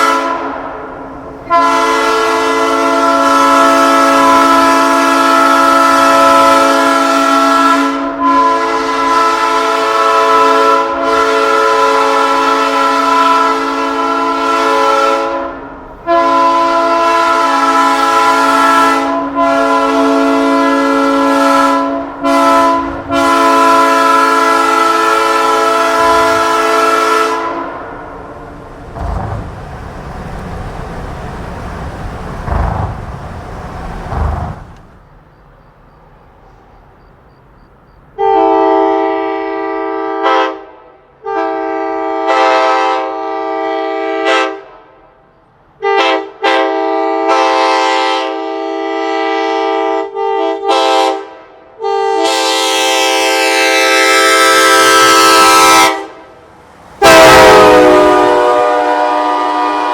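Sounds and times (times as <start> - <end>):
train horn chord blasts: 0.0 - 34.9, 38.2 - 45.1, 45.8 - 56.4, 57.0 - 59.9.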